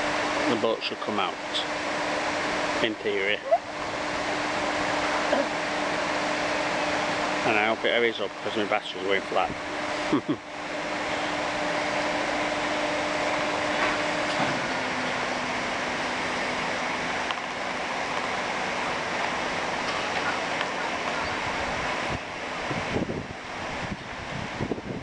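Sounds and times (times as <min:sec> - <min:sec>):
hydraulic machinery humming: 0:00.0 - 0:25.0.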